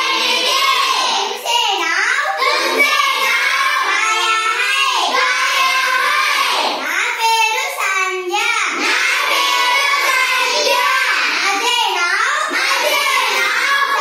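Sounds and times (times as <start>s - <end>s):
children chanting in sing-song: 0.0s - 14.0s.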